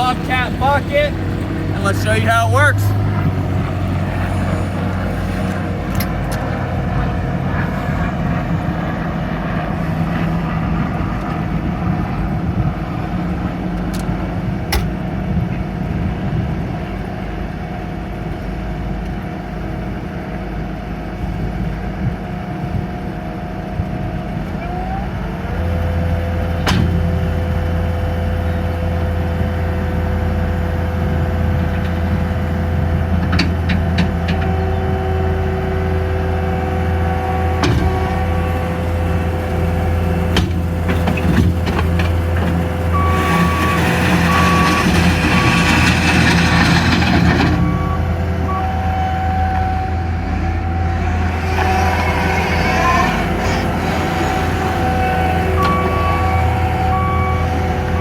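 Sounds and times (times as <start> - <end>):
diesel engine running: 0.0 - 58.0
steady whine: 0.0 - 58.0.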